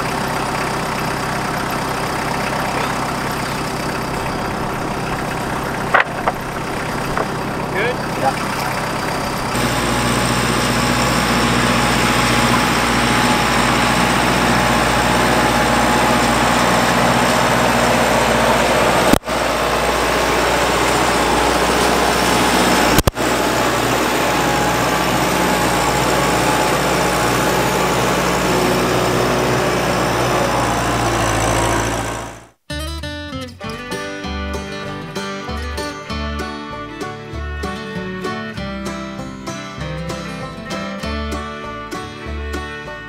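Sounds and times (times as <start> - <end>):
tractor diesel engine running: 0.0 - 32.6, 33.6 - 43.0.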